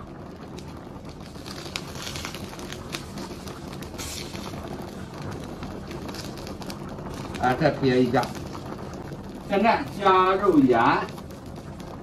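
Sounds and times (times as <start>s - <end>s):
broth boiling hard: 0.0s - 12.0s.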